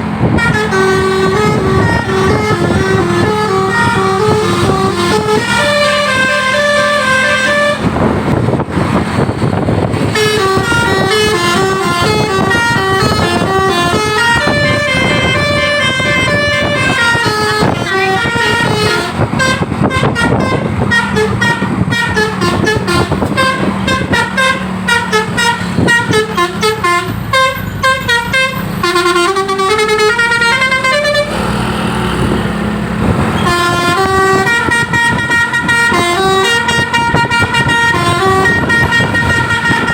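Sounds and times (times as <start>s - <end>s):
bus noise: 0.0s - 39.9s
musical air horns: 0.3s - 8.4s, 9.5s - 31.7s, 33.1s - 39.9s.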